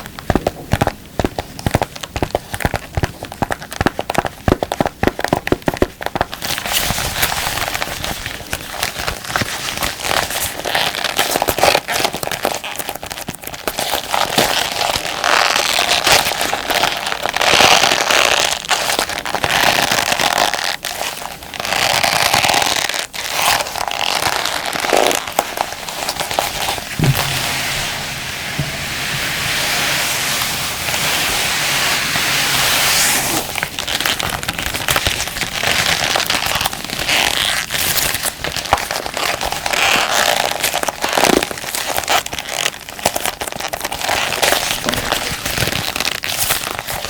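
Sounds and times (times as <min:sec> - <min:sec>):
gloves crackling and rustling: 0:00.0 - 0:47.0.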